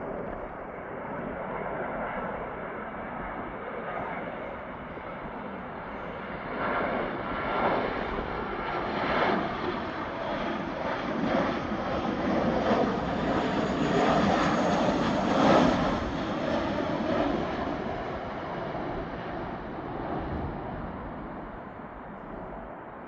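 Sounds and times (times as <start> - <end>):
jet airliner landing: 0.0 - 23.0.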